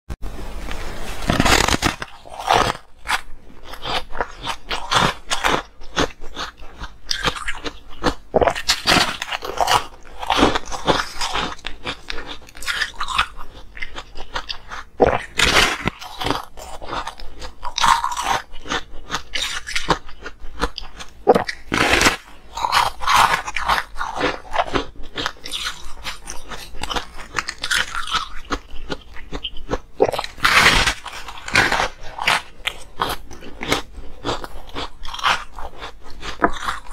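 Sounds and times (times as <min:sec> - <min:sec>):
crunching ice between teeth: 0:01.2 - 0:36.9.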